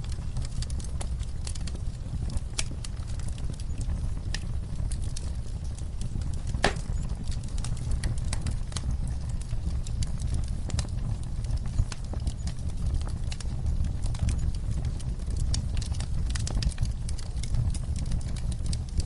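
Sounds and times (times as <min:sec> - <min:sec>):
low steady fire rumble: 0:00.0 - 0:19.0
wood fire crackling: 0:00.0 - 0:19.0.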